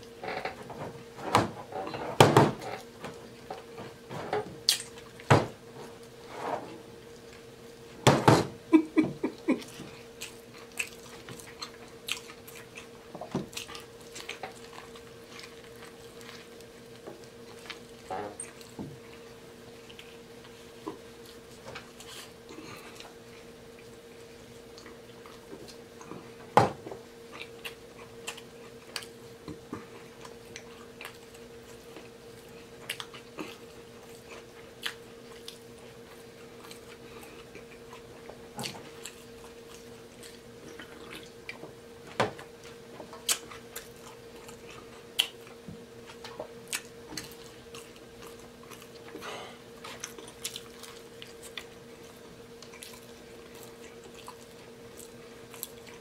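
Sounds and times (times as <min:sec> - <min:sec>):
faint hum: 0:00.0 - 0:56.0
man chewing and smacking: 0:04.6 - 0:05.3, 0:08.7 - 0:26.4, 0:27.0 - 0:56.0.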